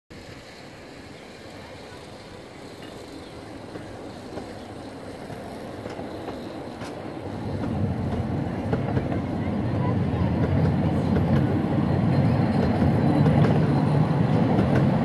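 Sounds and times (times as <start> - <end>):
wheels clicking over rail joints: 0.1 - 9.5, 10.1 - 15.0
small train passing: 0.1 - 15.0.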